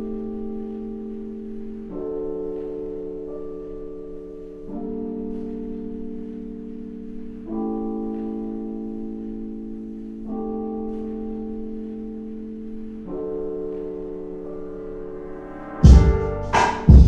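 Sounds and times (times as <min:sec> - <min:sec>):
lo-fi hip hop chords: 0:00.0 - 0:17.0.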